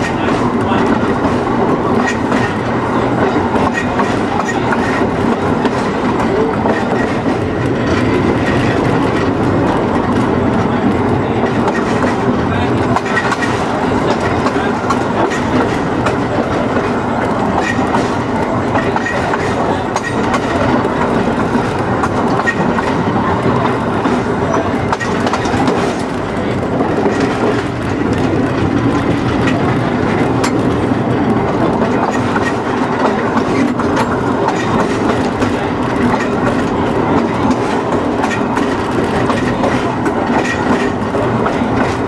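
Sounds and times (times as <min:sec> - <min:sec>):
streetcar wheels rumbling on rails: 0:00.0 - 0:42.0.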